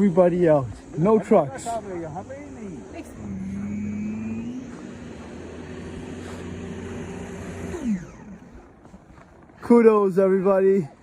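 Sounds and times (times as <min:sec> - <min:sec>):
engine running at high speed: 0:00.0 - 0:11.0.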